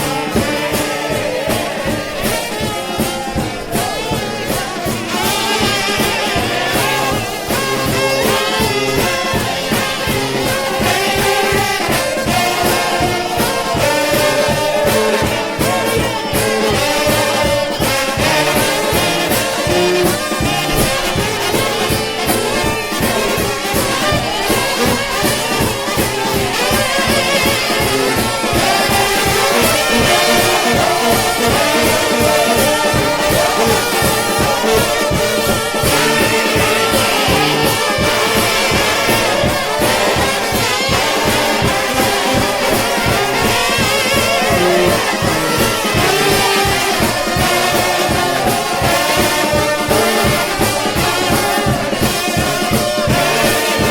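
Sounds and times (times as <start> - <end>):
brass band playing up-tempo music: 0.0 - 53.9.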